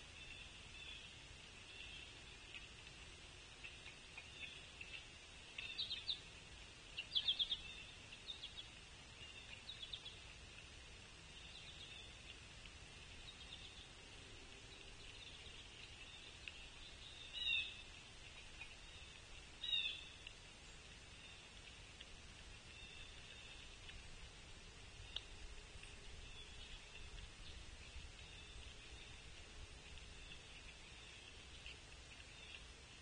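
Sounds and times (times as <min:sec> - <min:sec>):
faint high-pitched hum: 0:00.0 - 0:33.0.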